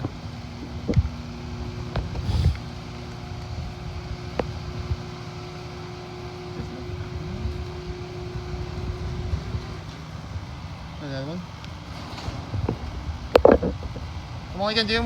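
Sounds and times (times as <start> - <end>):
garage door opener motor hum: 0.0 - 15.0.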